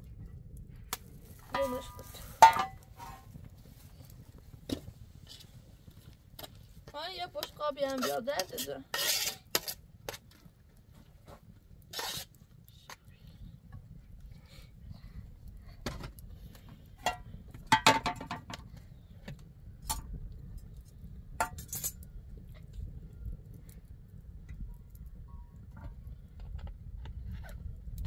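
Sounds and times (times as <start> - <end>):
low steady rumble: 0.0 - 28.0.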